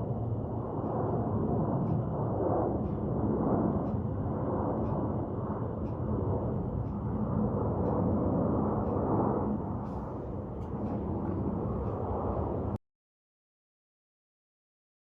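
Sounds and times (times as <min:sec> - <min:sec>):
jet airliner engines rumbling: 0:00.0 - 0:12.8.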